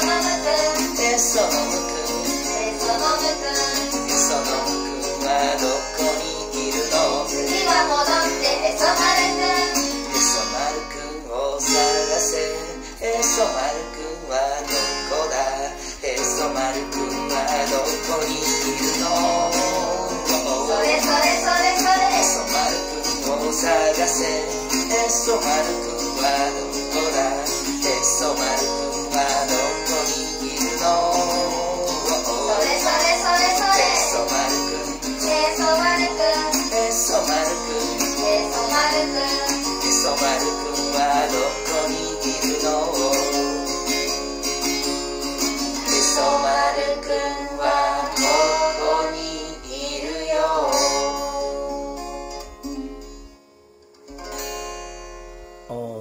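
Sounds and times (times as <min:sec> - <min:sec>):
person singing: 0:00.0 - 0:44.2, 0:45.6 - 0:52.9, 0:55.7 - 0:56.0
children's song on acoustic guitar: 0:00.0 - 0:56.0.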